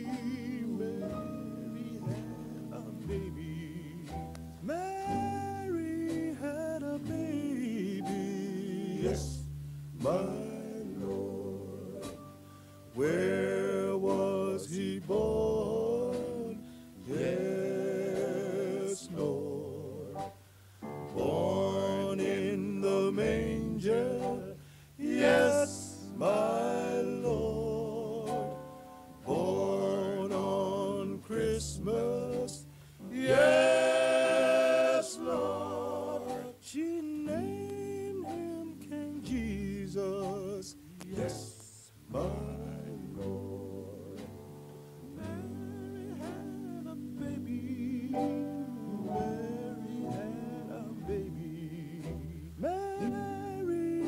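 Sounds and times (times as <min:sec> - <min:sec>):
male vocal quartet singing: 0:00.0 - 0:12.3, 0:13.0 - 0:20.4, 0:21.1 - 0:54.0.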